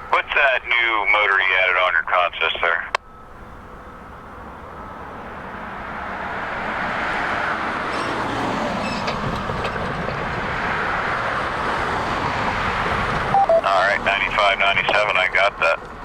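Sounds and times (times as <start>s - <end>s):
vehicle approaching: 3.0s - 16.0s.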